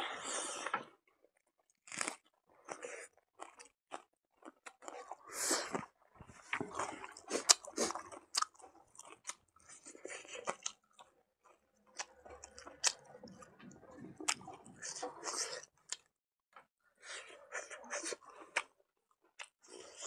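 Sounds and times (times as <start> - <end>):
man chewing food: 1.6 - 20.0.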